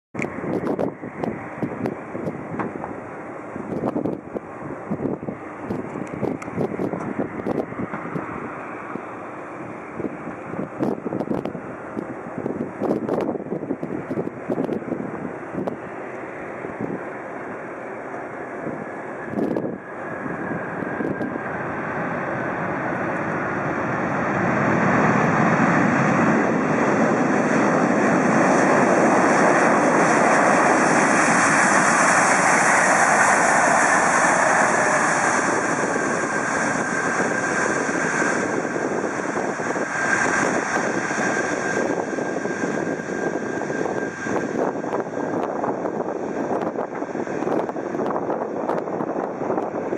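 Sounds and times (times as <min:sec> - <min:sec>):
jet airliner engine noise: 0:00.2 - 0:49.9.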